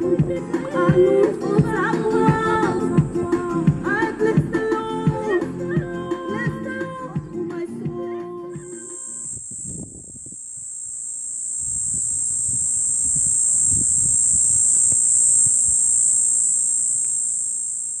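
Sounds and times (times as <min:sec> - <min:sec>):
cicadas droning: 0:00.0 - 0:06.9, 0:08.4 - 0:18.0.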